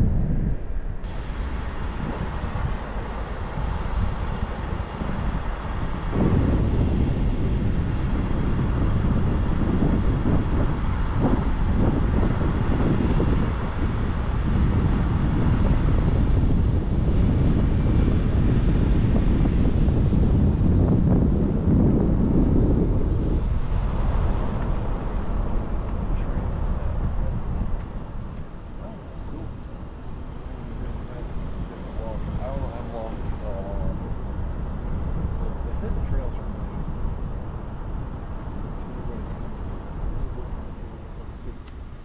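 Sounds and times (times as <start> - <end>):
moving car rumble: 0.0 - 42.0
wind buffeting the microphone: 0.0 - 42.0.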